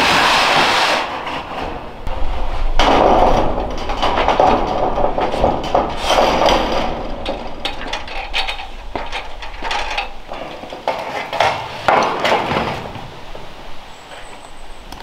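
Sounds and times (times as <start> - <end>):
metal sheet clanking and rattling: 0.0 - 13.5.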